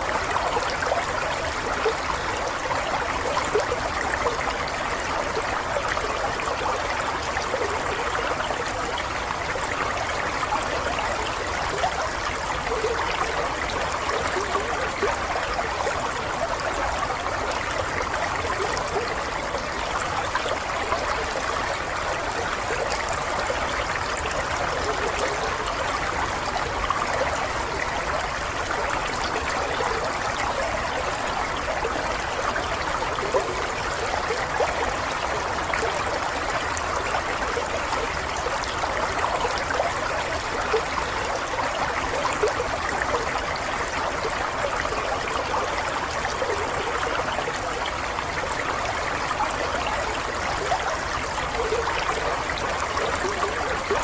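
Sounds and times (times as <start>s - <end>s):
stream water burbling: 0.0s - 54.0s.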